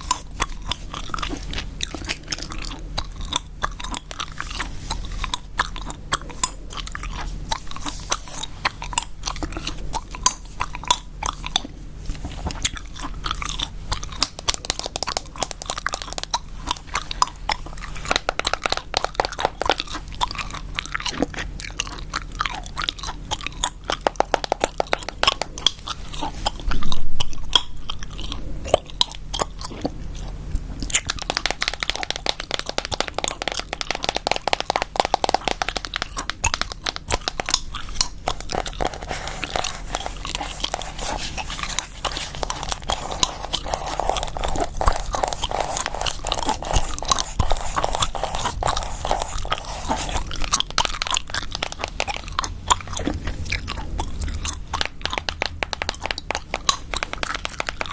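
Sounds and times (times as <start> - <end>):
gum chewing clicks: 0.0 - 57.9.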